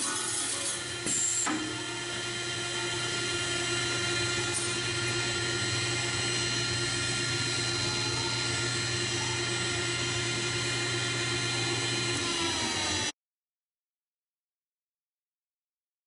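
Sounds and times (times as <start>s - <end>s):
machine humming with high whine: 0.0s - 13.1s.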